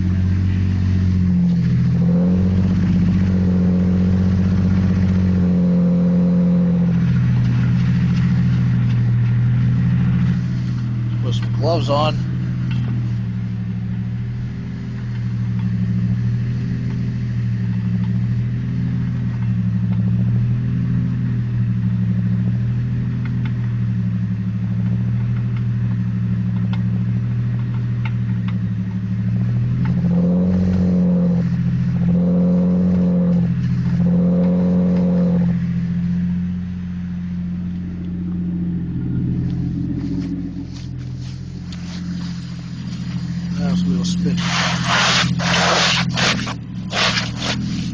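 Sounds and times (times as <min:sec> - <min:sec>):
car engine humming: 0:00.0 - 0:47.9.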